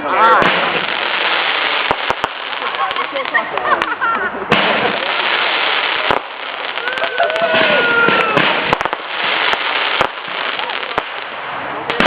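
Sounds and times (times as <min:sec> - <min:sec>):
firework bursting reports: 0:00.0 - 0:12.0
firework crackling: 0:00.0 - 0:12.0.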